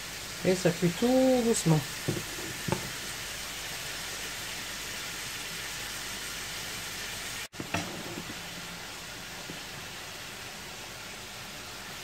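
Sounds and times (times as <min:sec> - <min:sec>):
soup simmering in a pot: 0:01.2 - 0:12.0.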